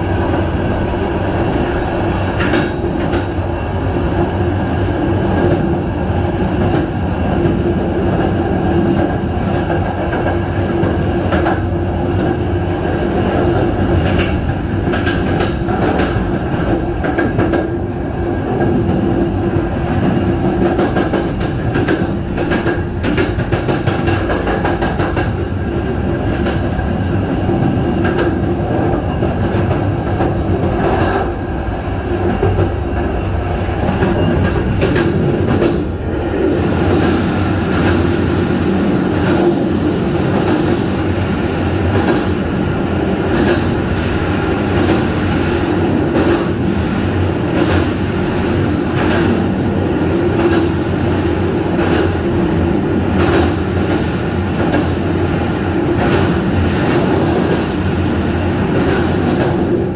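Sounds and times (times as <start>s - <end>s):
train rumble and hum: 0.0s - 59.9s.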